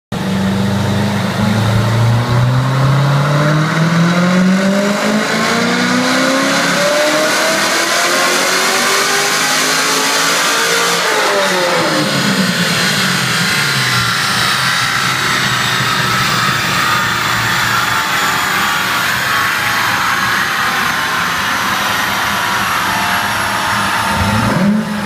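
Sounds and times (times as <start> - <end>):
car engine revving: 0.1 - 25.0.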